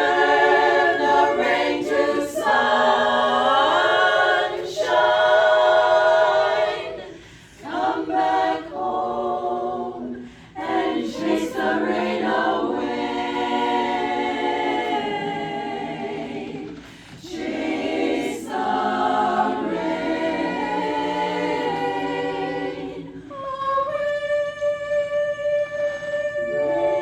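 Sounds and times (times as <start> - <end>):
a cappella choir singing: 0.0 - 27.0.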